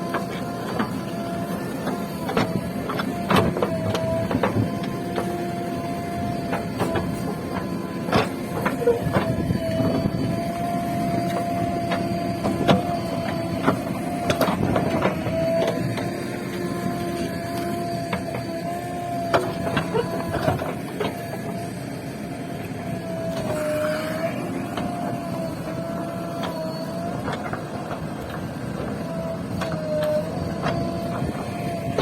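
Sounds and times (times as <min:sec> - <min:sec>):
digger knocks and clanks: 0:00.0 - 0:21.7, 0:22.8 - 0:32.0
diesel engine whining: 0:00.0 - 0:32.0.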